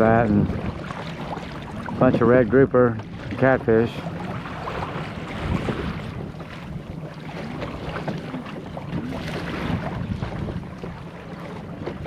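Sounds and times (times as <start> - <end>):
water sloshing against hull: 0.0 - 12.0
wind on microphone: 0.0 - 12.0.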